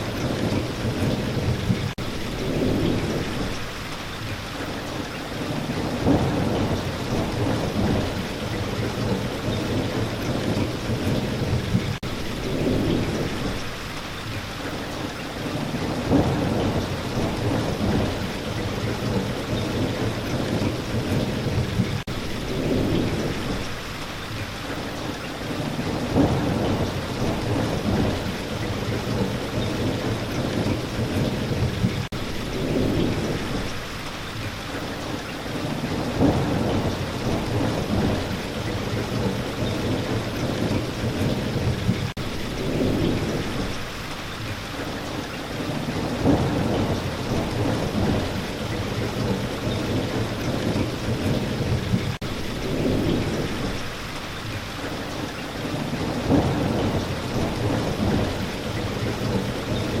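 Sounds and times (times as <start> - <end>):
low rolling thunder: 0.0 - 44.1, 44.8 - 60.0
steady rain: 0.0 - 60.0.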